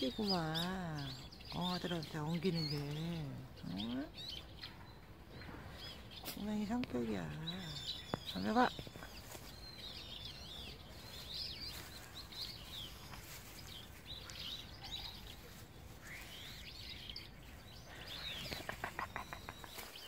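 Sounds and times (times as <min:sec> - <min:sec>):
faint outdoor hiss: 0:00.0 - 0:20.0
small birds chirping: 0:00.0 - 0:20.0.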